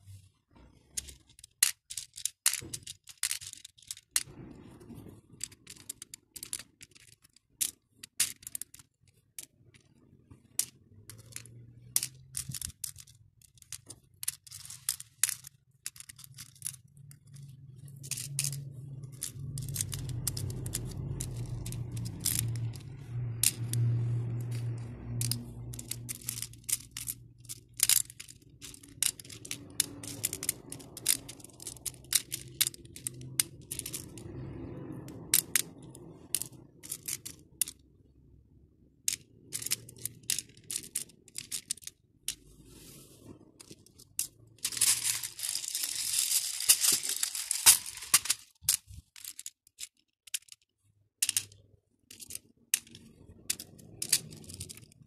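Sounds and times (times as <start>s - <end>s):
beads clicking on plastic trays: 0.9s - 4.3s, 5.0s - 9.8s, 10.5s - 37.9s, 39.1s - 42.5s, 43.6s - 55.0s.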